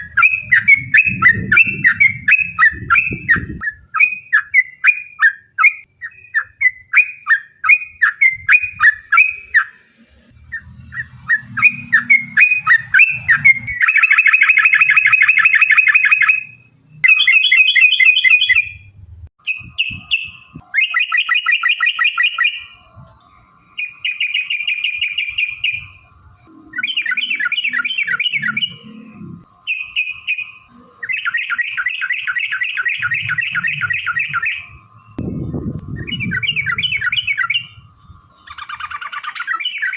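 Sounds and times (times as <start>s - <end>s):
bird chirping: 0.0s - 9.8s, 10.4s - 39.9s
bird singing: 0.0s - 39.9s
fast rolling bird trills: 0.0s - 39.9s.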